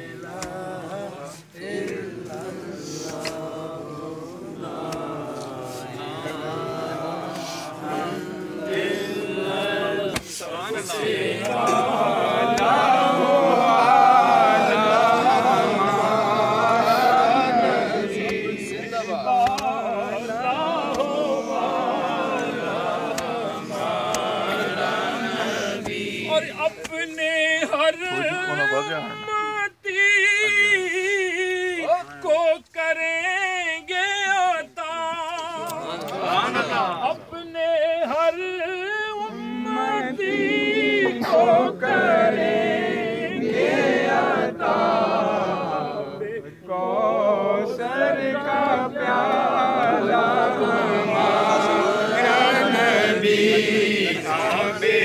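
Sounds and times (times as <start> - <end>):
men chanting a religious recitation: 0.0 - 55.0.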